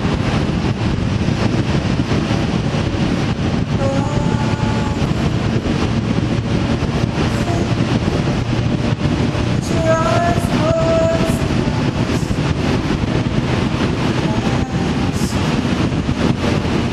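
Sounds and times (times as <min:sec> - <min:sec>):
vehicle driving noise: 0:00.0 - 0:16.9.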